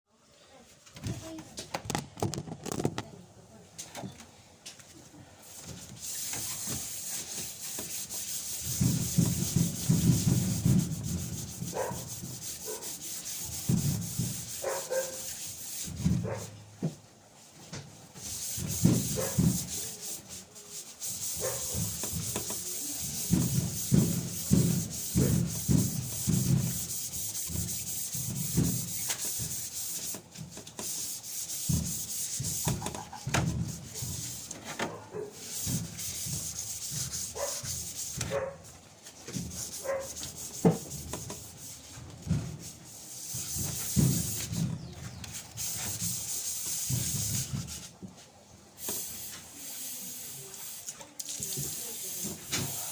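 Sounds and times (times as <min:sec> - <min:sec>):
sanding sheet metal: 0:05.5 - 0:16.6, 0:18.2 - 0:34.7, 0:35.3 - 0:48.0, 0:48.8 - 0:52.9.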